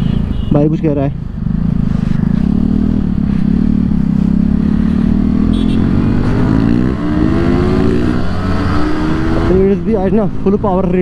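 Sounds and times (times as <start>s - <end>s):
motorcycle engine accelerating: 1.3s - 10.4s.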